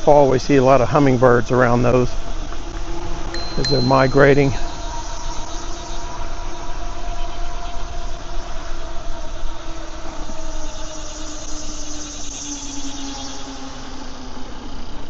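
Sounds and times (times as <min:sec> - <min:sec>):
electric bike motor hum: 0:02.0 - 0:15.0.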